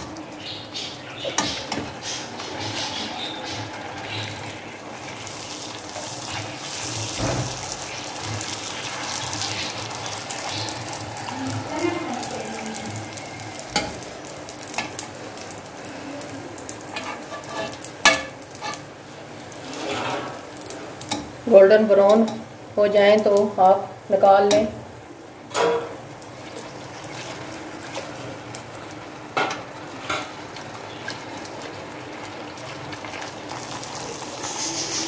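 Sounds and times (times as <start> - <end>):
dough sizzling in hot oil: 0.0 - 35.0.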